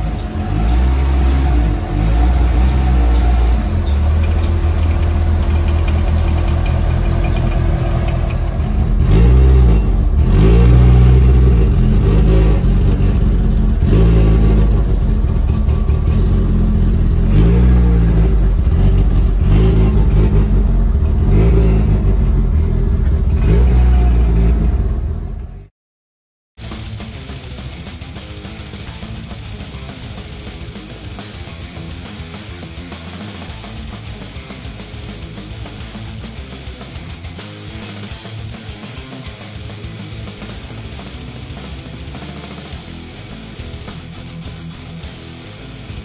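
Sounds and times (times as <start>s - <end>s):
turbocharged car engine revving: 0.0s - 25.7s, 26.7s - 46.0s.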